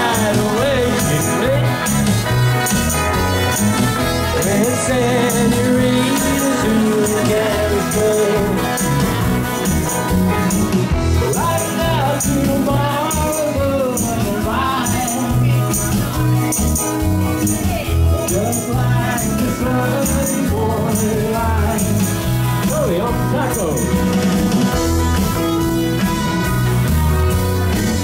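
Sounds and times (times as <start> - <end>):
live rock band playing: 0.0 - 28.0
wavering lead melody: 0.0 - 28.0.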